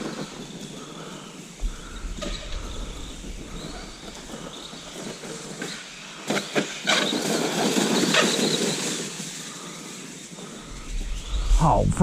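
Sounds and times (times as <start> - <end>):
toy truck tyre and drivetrain noise: 0.0 - 11.3.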